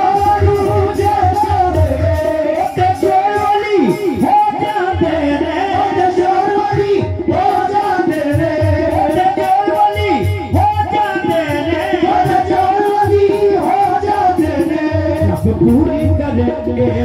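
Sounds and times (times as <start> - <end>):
held instrumental notes: 0.0 - 17.0
men singing into microphones: 0.0 - 17.0.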